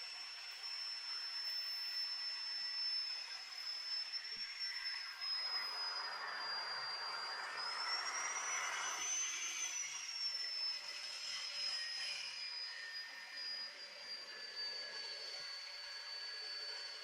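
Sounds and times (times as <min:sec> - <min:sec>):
saw motor whining: 0:00.0 - 0:17.0.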